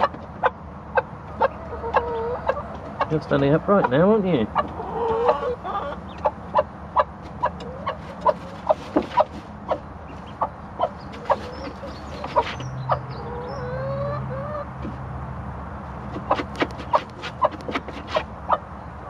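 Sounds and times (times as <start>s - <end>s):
hen clucking: 0.0s - 15.1s, 15.7s - 19.0s.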